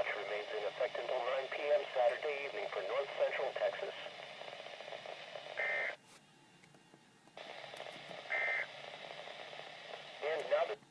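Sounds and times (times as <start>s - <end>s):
radio hiss: 0.0s - 6.0s, 7.4s - 10.9s.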